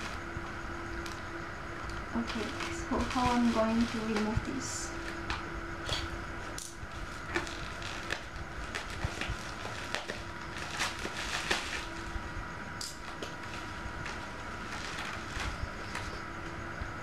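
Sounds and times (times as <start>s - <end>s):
rustling of handling: 0.0s - 16.5s
faint steady hum: 0.0s - 17.0s.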